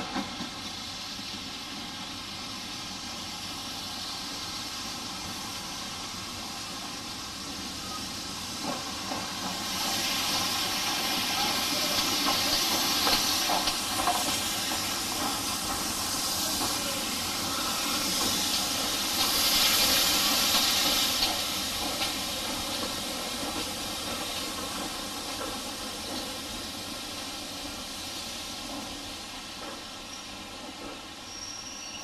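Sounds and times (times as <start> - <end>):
steam locomotive hissing: 0.0 - 32.0.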